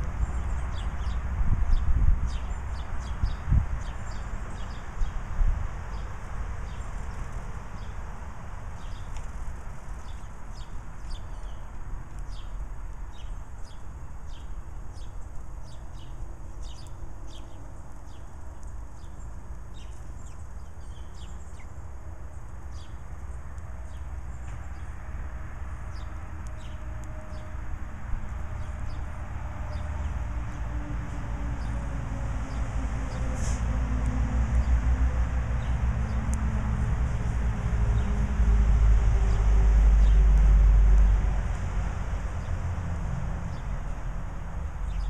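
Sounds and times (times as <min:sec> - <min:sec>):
road traffic rumble: 0:00.0 - 0:45.0
songbirds chirping: 0:00.0 - 0:45.0.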